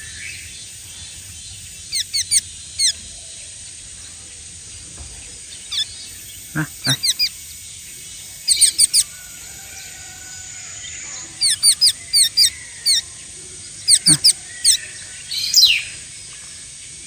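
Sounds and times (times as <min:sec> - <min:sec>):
young songbird chirping: 0:00.0 - 0:03.8, 0:05.4 - 0:13.1, 0:13.7 - 0:16.1.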